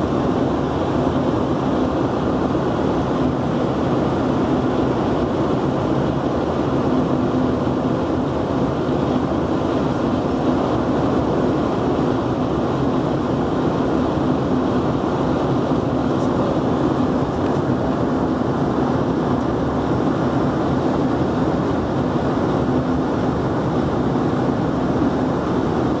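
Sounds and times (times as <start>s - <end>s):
jet cabin airflow rush: 0.0s - 26.0s
steady low hum: 0.0s - 26.0s.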